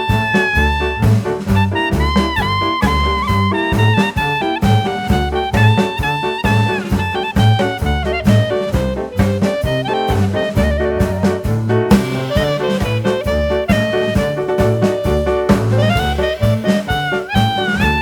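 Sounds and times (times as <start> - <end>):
jazz music with brass and saxophone: 0.0 - 18.0
walking bass: 0.0 - 18.0.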